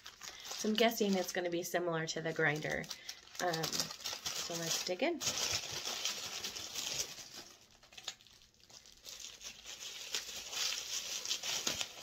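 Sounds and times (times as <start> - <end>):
wrapping crinkling and rustling: 0.0 - 12.0.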